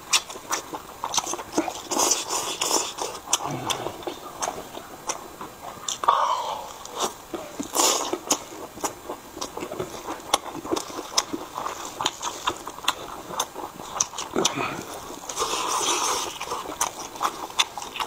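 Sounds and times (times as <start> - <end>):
close chewing with mouth clicks: 0.0 - 18.0
noisy bites or slurps: 0.0 - 18.0.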